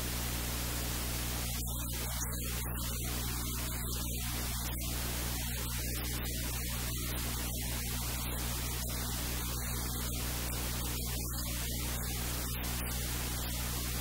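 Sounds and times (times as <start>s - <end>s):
low electrical hum: 0.0s - 14.0s
steady hiss: 0.0s - 14.0s.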